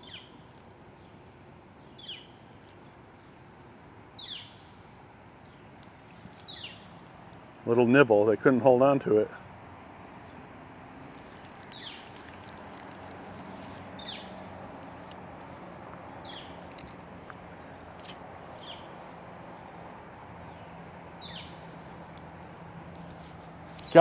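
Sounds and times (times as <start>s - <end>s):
bird chirping downward calls: 0.0s - 3.5s, 4.2s - 7.5s, 11.2s - 24.0s
high insect trill: 0.0s - 24.0s.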